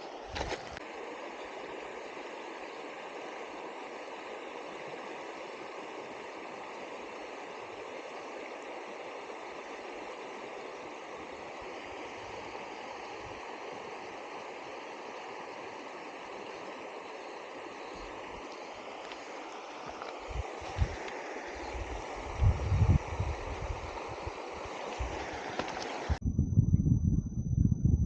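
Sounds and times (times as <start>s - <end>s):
river water flowing: 0.0s - 26.2s.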